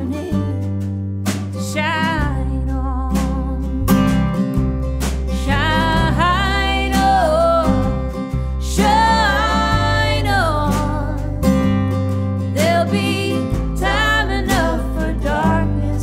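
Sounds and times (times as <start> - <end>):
woman singing: 0.0 - 0.8, 1.6 - 4.1, 5.3 - 11.5, 12.6 - 16.0
electric bass line: 0.0 - 16.0
strummed acoustic guitar: 0.0 - 16.0.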